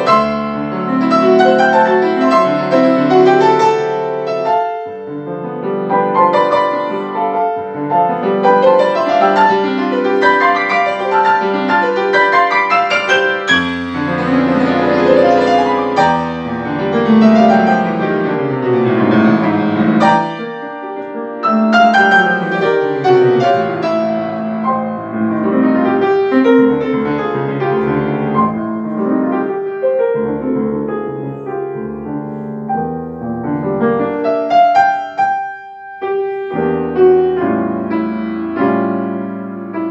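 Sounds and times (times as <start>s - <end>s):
grand piano playing classical runs: 0.0s - 39.9s.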